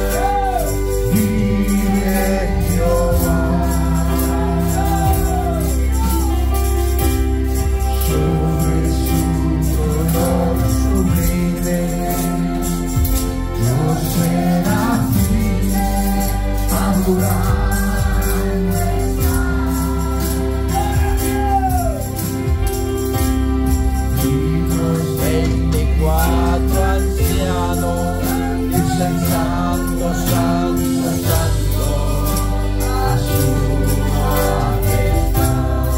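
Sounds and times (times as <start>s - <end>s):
keyboard chords: 0.0s - 35.9s
percussion beat: 0.0s - 35.9s.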